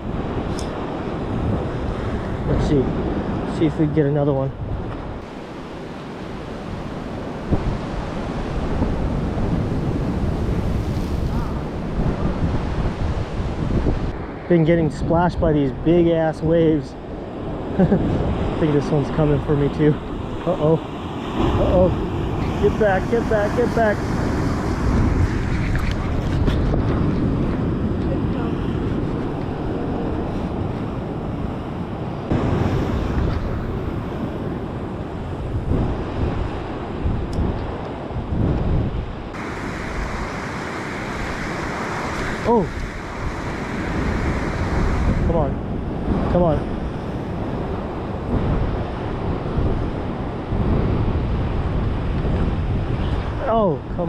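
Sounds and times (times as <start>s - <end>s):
ocean surf breaking on rocks: 0.0s - 54.0s
wind rumbling on microphone: 0.0s - 54.0s.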